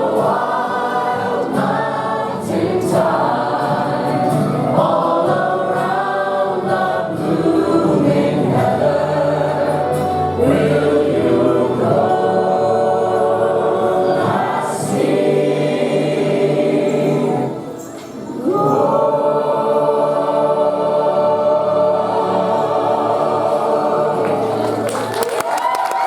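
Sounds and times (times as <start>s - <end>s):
choir singing: 0.0s - 25.4s.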